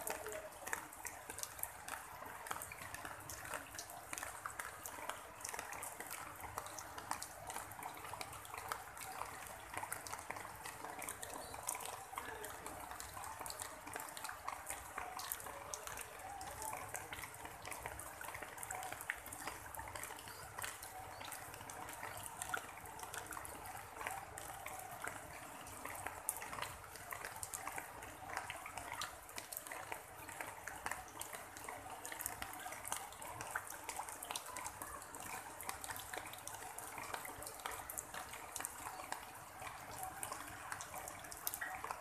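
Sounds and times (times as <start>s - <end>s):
rain falling on leaves: 0.0s - 42.0s.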